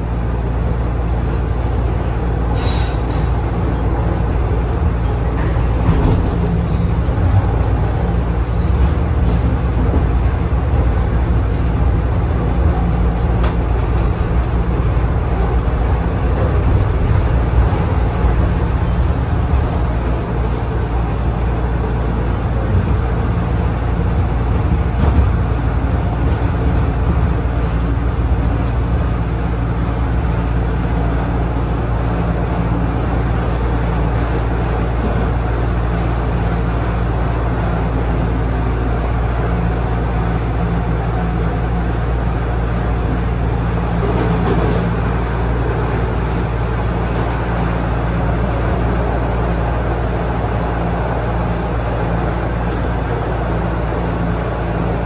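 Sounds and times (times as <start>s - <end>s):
subway train rumbling in tunnel: 0.0s - 55.0s.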